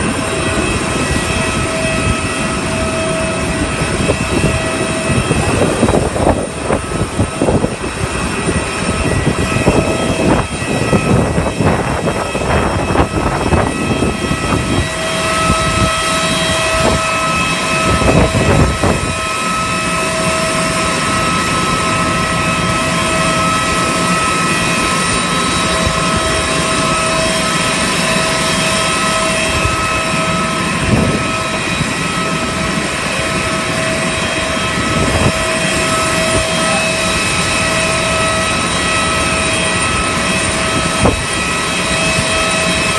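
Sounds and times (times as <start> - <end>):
engine whine: 0.0 - 42.9
jet engine and cabin noise: 0.0 - 42.9.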